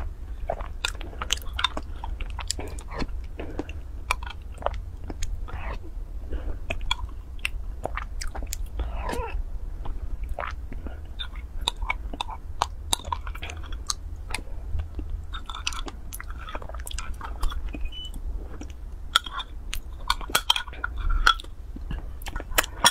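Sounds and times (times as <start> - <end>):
wet chewing and lip smacking: 0.0 - 5.9, 6.5 - 22.9.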